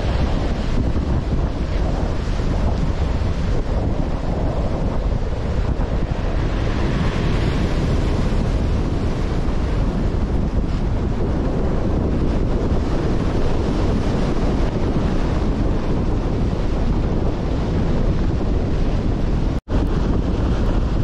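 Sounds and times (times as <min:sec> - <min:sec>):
stormy sea waves: 0:00.0 - 0:21.0
wind buffeting microphone: 0:00.0 - 0:21.0.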